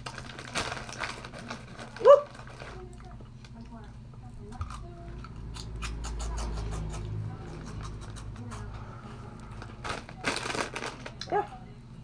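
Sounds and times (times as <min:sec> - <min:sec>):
corn chips crunching: 0:00.0 - 0:03.7, 0:04.6 - 0:08.6, 0:09.4 - 0:11.3.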